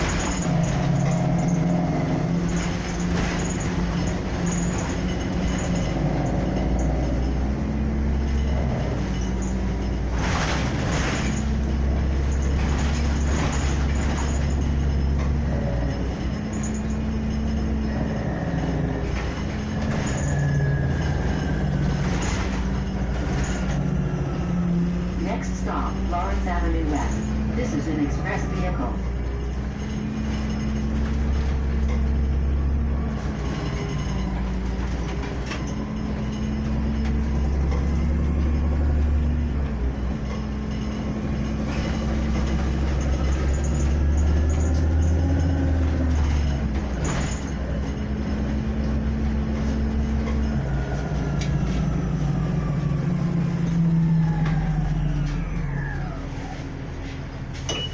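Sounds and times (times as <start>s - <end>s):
bus engine running: 0.0s - 57.9s.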